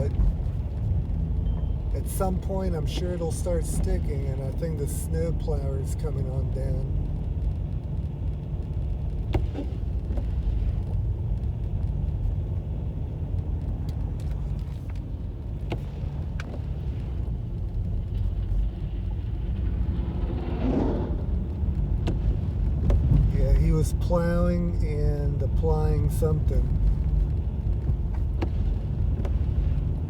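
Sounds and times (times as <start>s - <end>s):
motor vehicle rumble: 0.0s - 30.0s.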